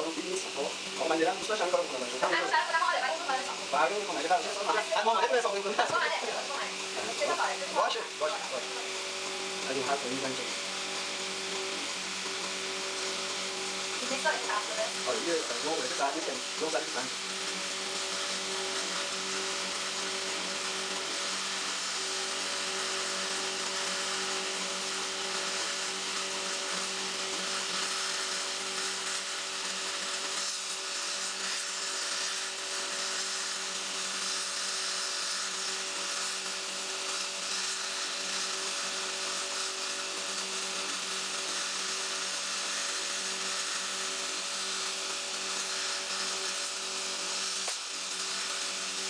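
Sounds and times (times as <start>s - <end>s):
machine hum: 0.0s - 49.0s
torch flame hissing: 0.0s - 49.0s.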